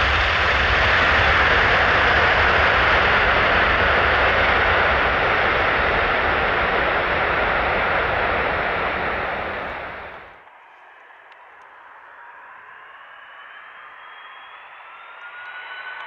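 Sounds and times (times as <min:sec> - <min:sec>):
jet engines at high thrust: 0:00.0 - 0:16.0.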